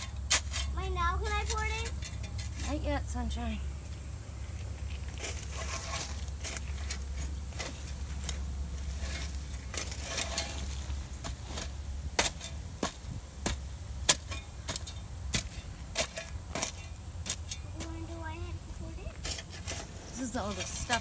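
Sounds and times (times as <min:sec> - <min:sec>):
spade scraping through soil: 0:00.0 - 0:02.9, 0:04.9 - 0:18.0, 0:19.1 - 0:21.0.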